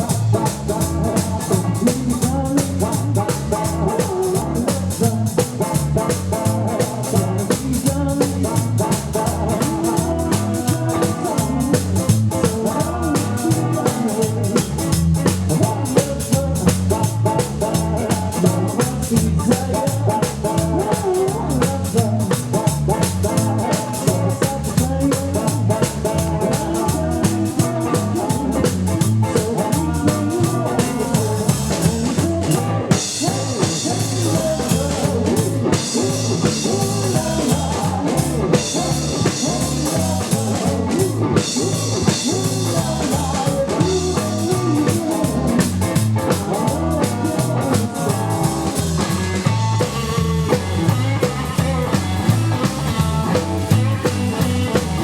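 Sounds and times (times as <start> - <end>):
double bass: 0.0 - 55.0
drum kit beat: 0.0 - 55.0
electric lead guitar: 0.0 - 55.0.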